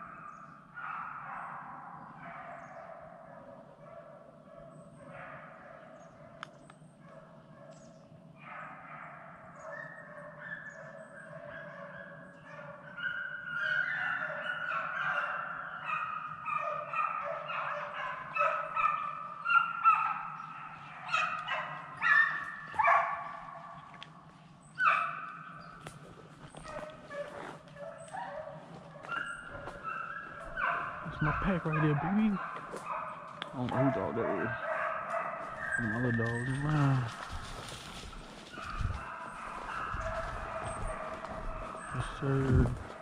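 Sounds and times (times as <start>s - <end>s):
pack of hounds baying: 0.0s - 43.0s.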